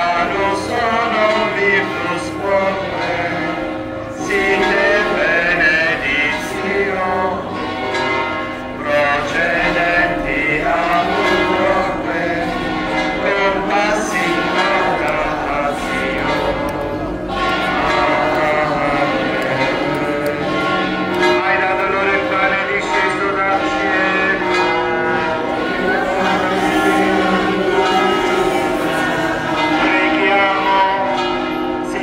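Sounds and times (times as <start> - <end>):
voices singing a hymn: 0.0 - 31.3
church bells ringing: 0.0 - 32.0.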